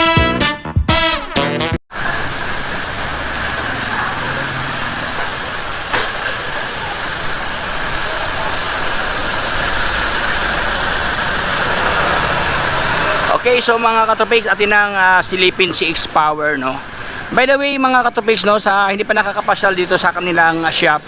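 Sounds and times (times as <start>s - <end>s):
street traffic passing: 1.9s - 21.0s.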